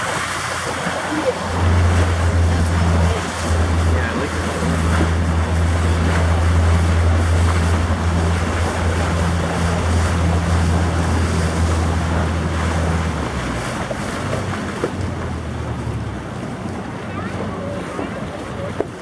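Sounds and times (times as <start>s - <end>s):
outboard motor humming: 0.0s - 19.0s
water washing past hull: 0.0s - 19.0s.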